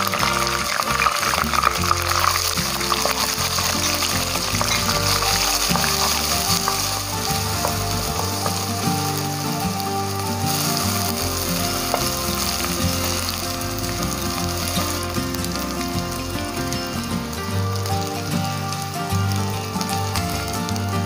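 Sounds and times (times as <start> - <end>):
paste sizzling in hot oil: 0.0 - 20.1.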